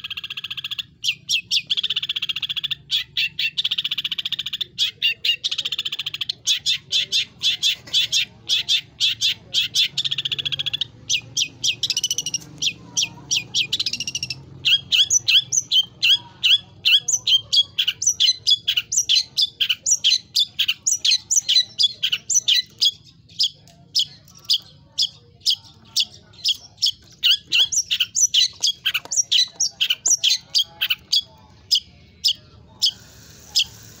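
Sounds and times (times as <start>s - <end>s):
shrike singing: 0.0s - 34.0s.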